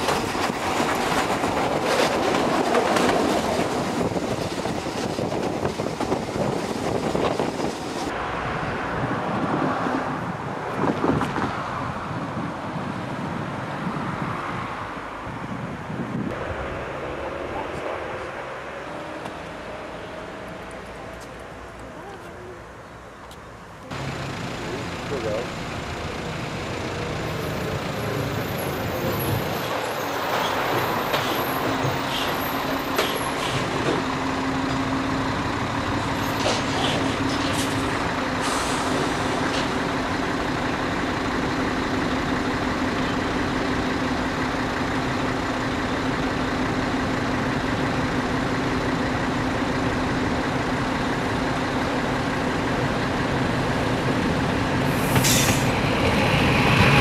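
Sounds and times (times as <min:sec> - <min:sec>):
electric train running rumble: 0:00.0 - 0:12.9, 0:14.2 - 0:21.9, 0:23.8 - 0:57.0.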